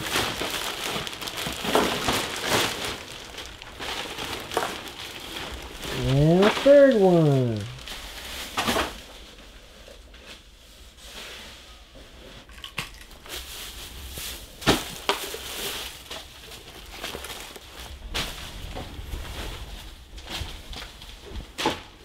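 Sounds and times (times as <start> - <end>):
trash rustling and crinkling: 0.0 - 10.4, 12.4 - 22.0.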